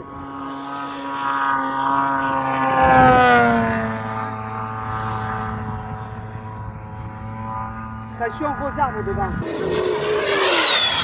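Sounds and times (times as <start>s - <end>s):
model airplane engine and propeller: 0.0s - 11.0s.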